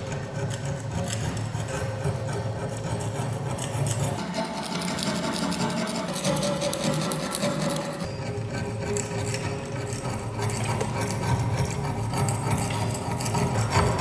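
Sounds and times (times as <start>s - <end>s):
scraper scraping rust off metal: 0.0s - 14.0s.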